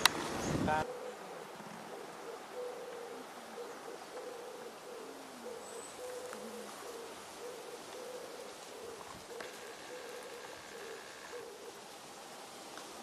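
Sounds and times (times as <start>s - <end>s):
bird hooting: 0.7s - 11.9s.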